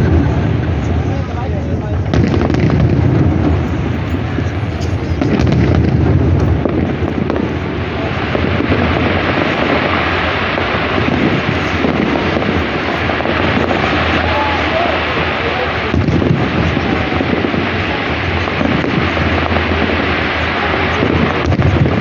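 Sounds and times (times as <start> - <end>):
fireworks booming: 0.0 - 22.0.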